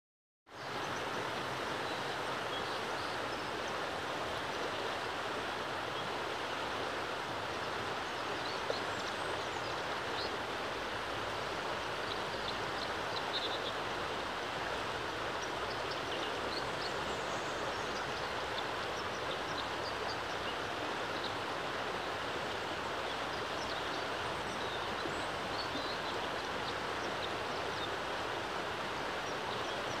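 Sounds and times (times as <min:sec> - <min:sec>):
river water rushing over rocks: 0:00.6 - 0:30.0.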